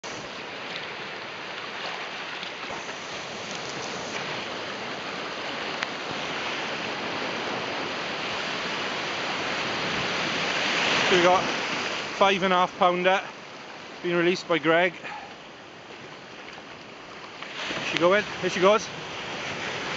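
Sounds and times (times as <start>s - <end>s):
surf washing and foaming: 0.0s - 19.9s.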